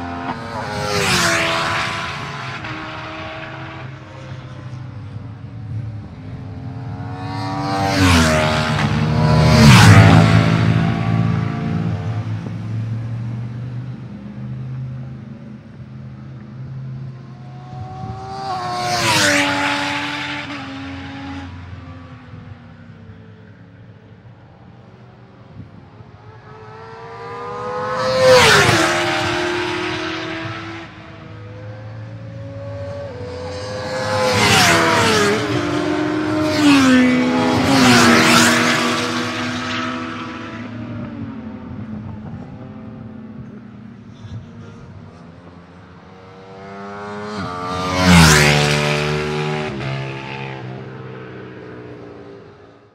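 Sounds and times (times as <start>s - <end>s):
racing motorcycles passing: 0.0s - 52.9s.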